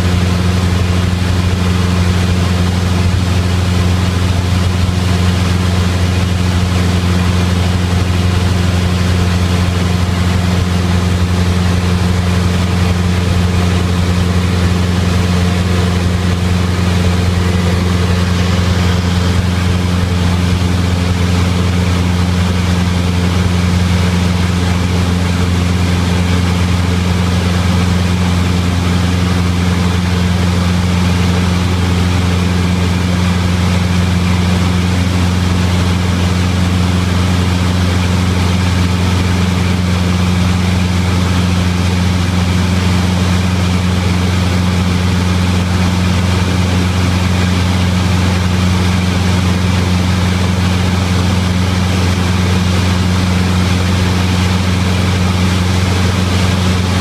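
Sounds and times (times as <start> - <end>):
propeller aircraft engine humming: 0.0 - 57.0.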